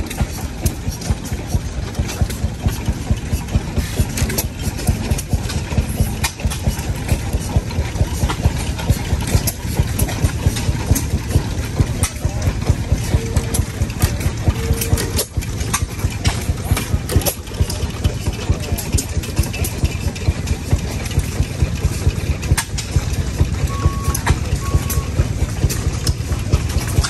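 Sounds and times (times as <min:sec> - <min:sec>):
sharp exhaust pops: 0:00.0 - 0:27.0
stationary gas engines running: 0:00.0 - 0:27.0.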